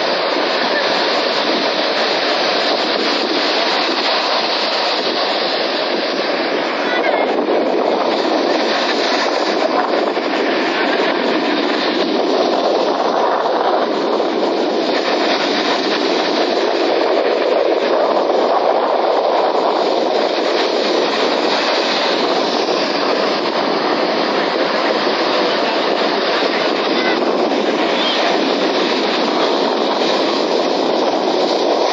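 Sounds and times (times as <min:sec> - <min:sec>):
sea waves surf: 0:00.0 - 0:31.9.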